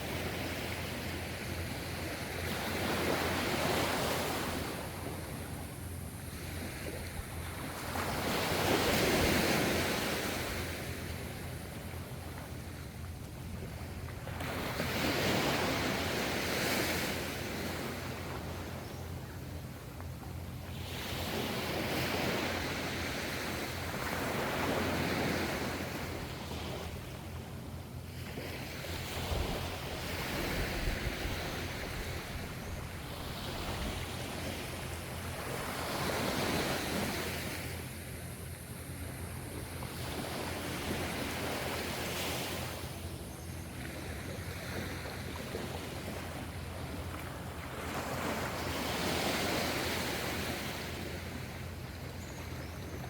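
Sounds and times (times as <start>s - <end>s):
ocean waves breaking: 0.0s - 43.2s, 43.8s - 52.1s.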